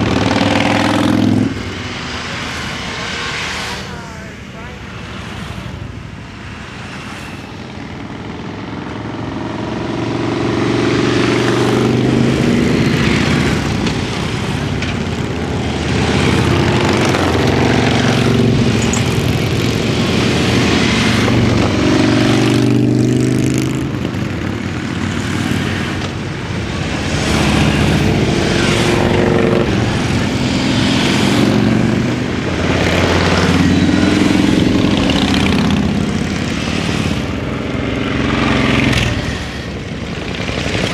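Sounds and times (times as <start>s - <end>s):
motorcycles riding past: 0.0s - 40.9s.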